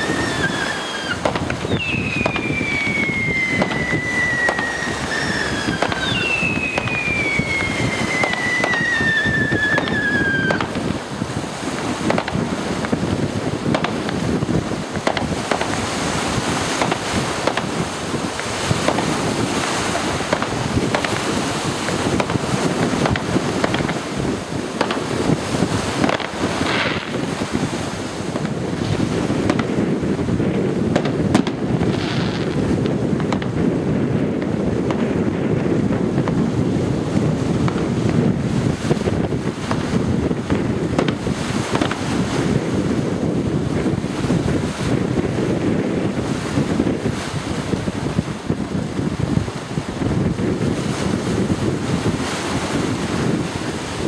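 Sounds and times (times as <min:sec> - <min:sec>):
whistling fireworks: 0:00.0 - 0:48.6
firework bangs and crackles: 0:00.0 - 0:54.0
steady rushing noise: 0:00.0 - 0:54.0.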